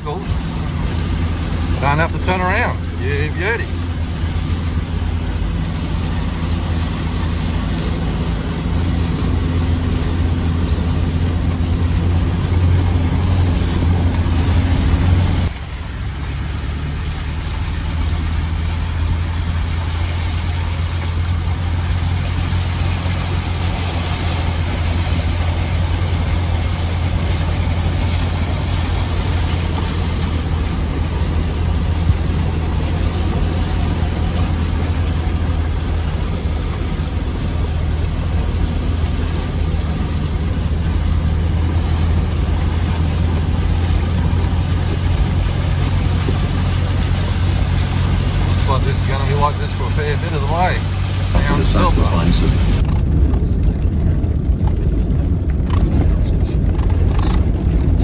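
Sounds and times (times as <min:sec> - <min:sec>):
engine droning inside cab: 0:00.0 - 0:58.0
water washing against vehicle: 0:00.0 - 0:58.0.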